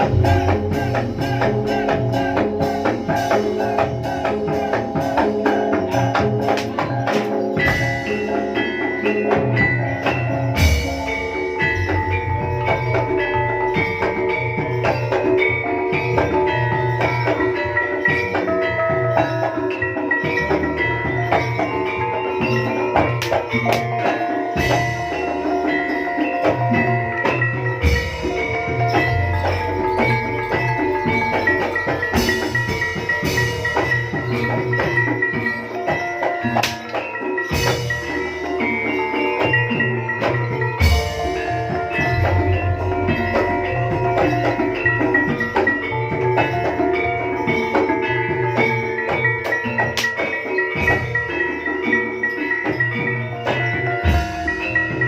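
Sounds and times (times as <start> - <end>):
gamelan ensemble with drums: 0.0 - 55.0
metallophones and gongs ringing: 0.0 - 55.0.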